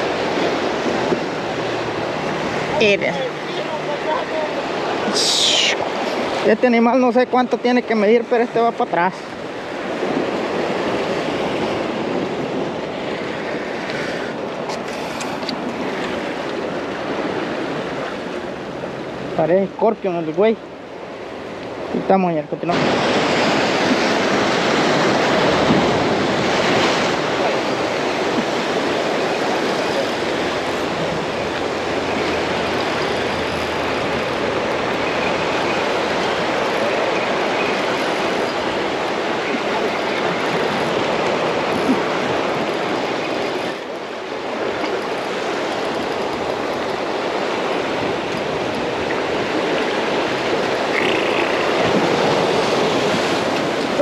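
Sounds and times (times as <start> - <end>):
ocean surf washing on beach: 0.0 - 54.0.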